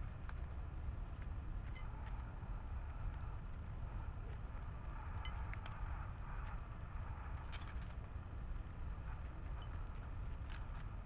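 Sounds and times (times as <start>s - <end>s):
beaks clicking on seed and dish: 0.0s - 6.6s, 7.4s - 10.9s
steady low rumble: 0.0s - 11.0s.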